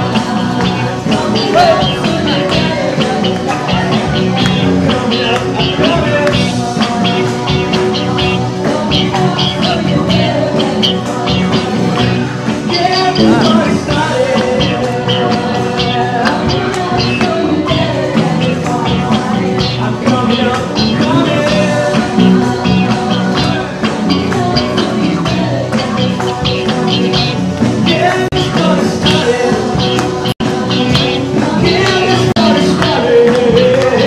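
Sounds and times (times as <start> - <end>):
rock band music: 0.0 - 34.0.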